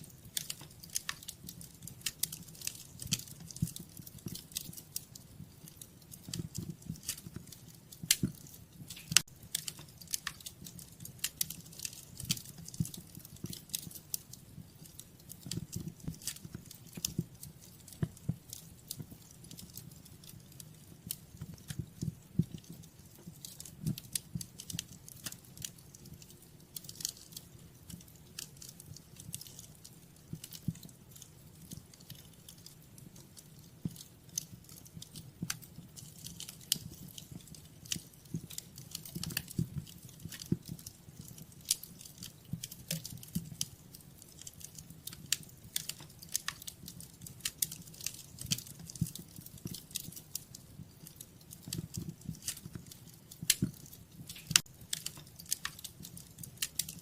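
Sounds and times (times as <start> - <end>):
fire pops and snaps: 0.0 - 57.0
low rumble of flames: 0.0 - 57.0.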